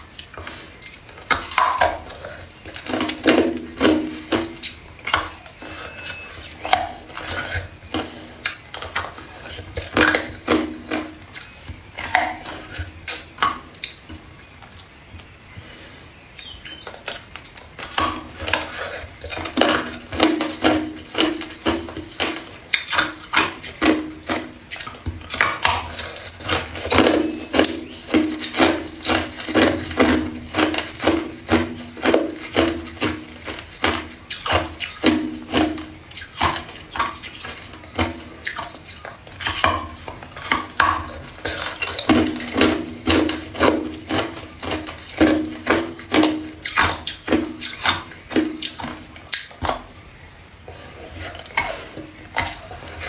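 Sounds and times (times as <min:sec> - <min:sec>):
ice being chewed: 0:00.0 - 0:15.3, 0:16.1 - 0:53.0.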